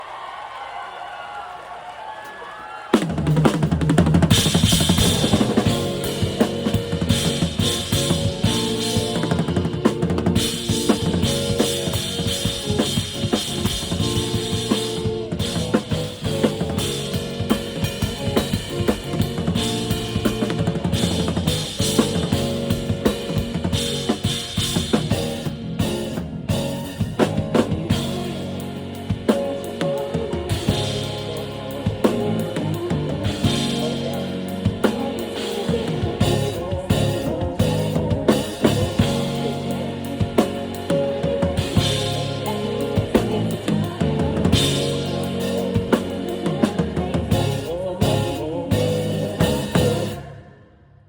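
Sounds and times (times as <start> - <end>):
drum kit playing: 2.9 - 50.3
backing track music: 3.0 - 50.5.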